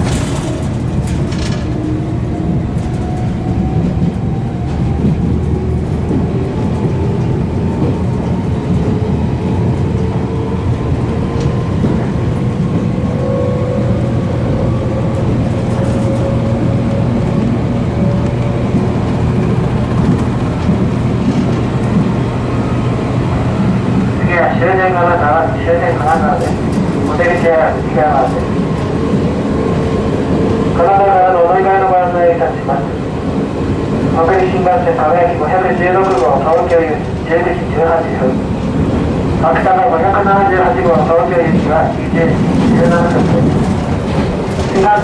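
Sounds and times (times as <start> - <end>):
train rumbling from inside car: 0.0 - 45.0.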